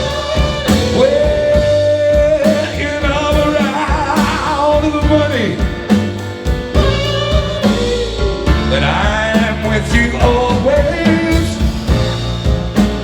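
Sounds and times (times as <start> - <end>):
live band drums and bass: 0.0 - 13.0.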